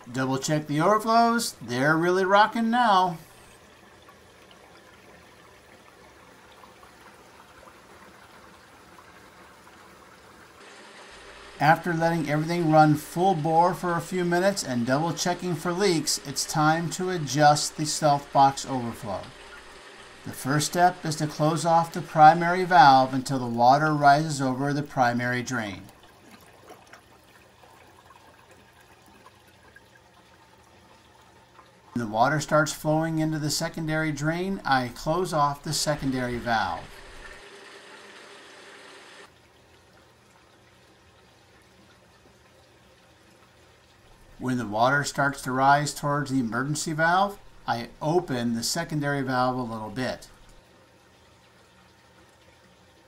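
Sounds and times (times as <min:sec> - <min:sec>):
water rushing and trickling: 0:00.0 - 0:53.0.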